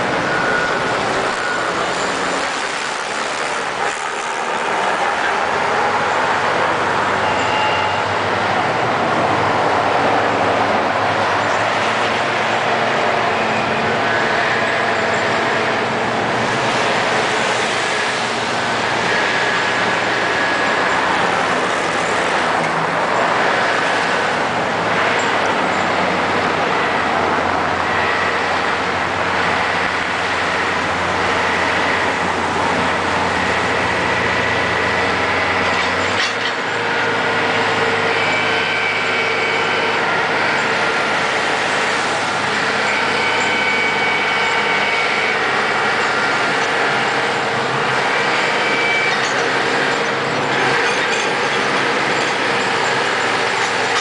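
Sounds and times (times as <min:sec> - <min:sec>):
heavy diesel engines running: 0:00.0 - 0:54.0
high steady whine: 0:00.0 - 0:54.0.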